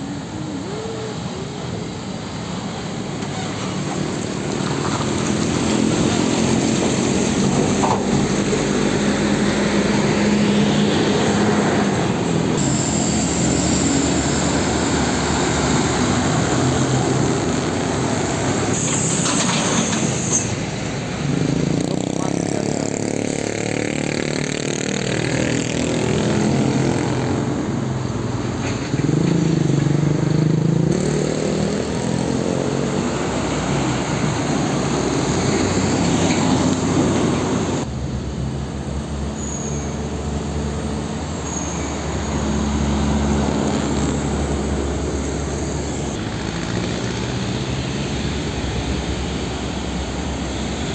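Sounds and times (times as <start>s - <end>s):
diesel trucks driving past: 0.0s - 50.9s
traffic and tyre noise: 0.0s - 50.9s.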